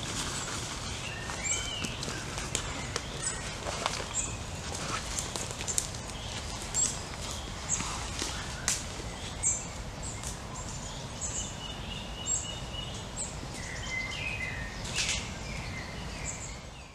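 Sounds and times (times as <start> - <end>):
low rumble of wind: 0.0 - 16.9
small birds chirping: 0.1 - 16.9.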